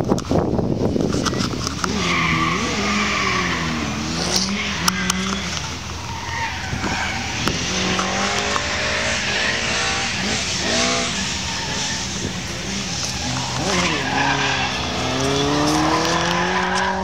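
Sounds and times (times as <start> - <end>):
rally car engine revving: 0.8 - 17.0
tyres squealing on tarmac: 1.4 - 17.0.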